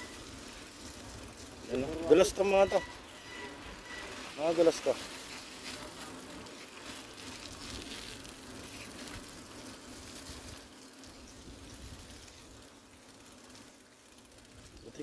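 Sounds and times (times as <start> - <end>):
bike tyres hissing on slush: 0.0 - 15.0.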